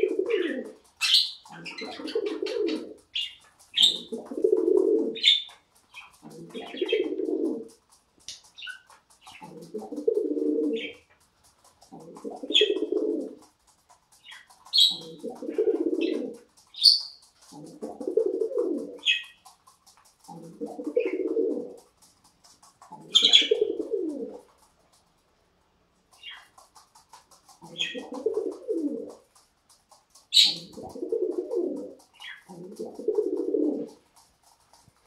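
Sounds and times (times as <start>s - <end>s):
pigeon cooing: 0.0s - 7.9s, 8.6s - 13.6s, 14.3s - 22.1s, 22.8s - 24.6s, 27.4s - 29.3s, 30.2s - 34.0s.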